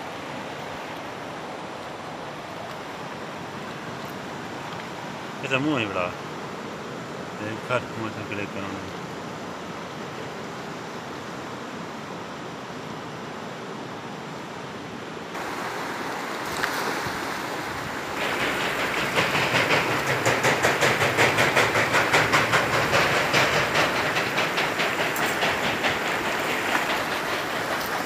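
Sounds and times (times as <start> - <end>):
fast river water rushing: 0.0 - 28.0.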